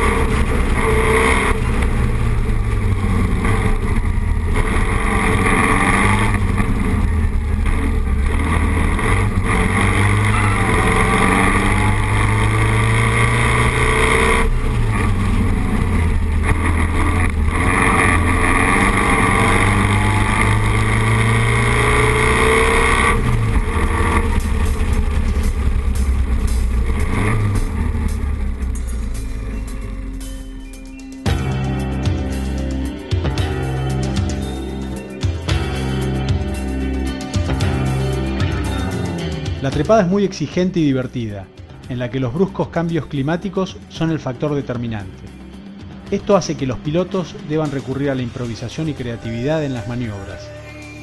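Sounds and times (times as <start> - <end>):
racing car engine accelerating: 0.0 - 51.0.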